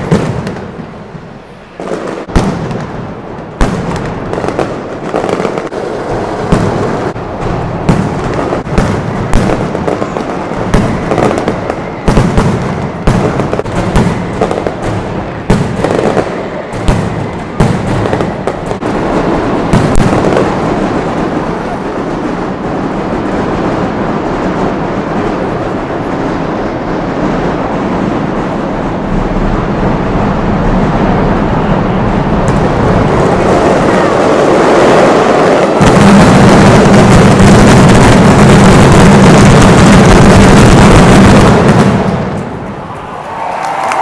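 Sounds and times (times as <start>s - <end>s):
firecrackers banging in a barrage: 0.0s - 44.0s.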